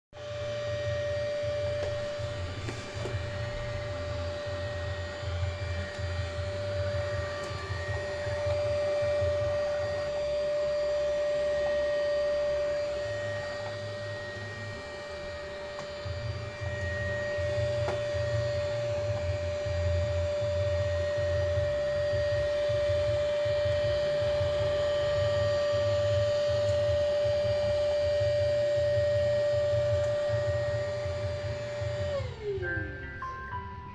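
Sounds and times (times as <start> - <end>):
low motor hum: 0.2 - 33.2
robot vacuum fan whine: 0.2 - 33.9.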